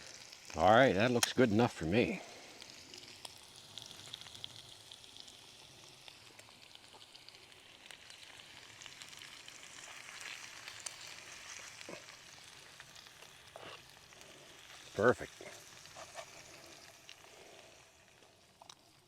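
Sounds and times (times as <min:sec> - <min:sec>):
food sizzling in a pan: 0:00.0 - 0:19.0
small pops of frying: 0:00.0 - 0:19.0.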